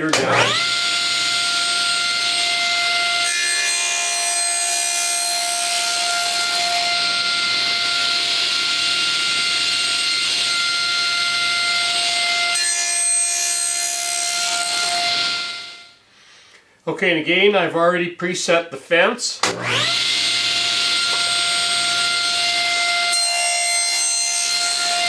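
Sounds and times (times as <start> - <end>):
table saw cutting wood: 0.0 - 16.0, 19.4 - 25.0
table saw humming: 0.0 - 16.0, 19.4 - 25.0.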